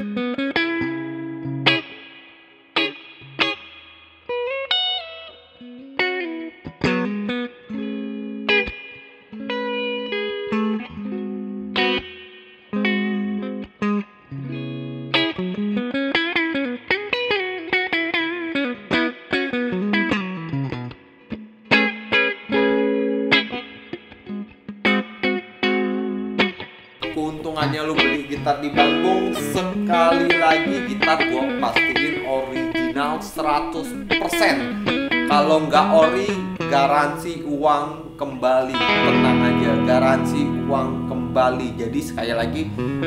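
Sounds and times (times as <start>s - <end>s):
electric guitar through amplifier: 0.0s - 43.0s.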